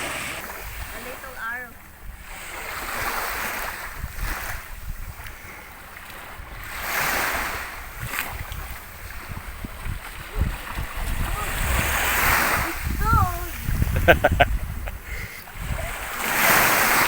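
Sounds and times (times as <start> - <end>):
ocean waves washing ashore: 0.0 - 17.0
wind buffeting microphone: 0.0 - 17.0.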